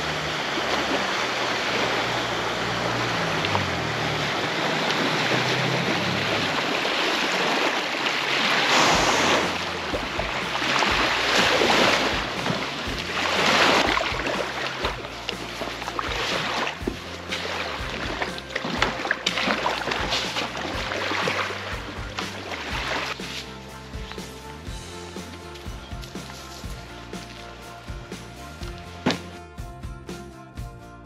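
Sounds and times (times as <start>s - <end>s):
water lapping: 0.0s - 29.4s
boat wake surging onto beach: 0.0s - 30.2s
outboard motor running: 0.0s - 30.8s.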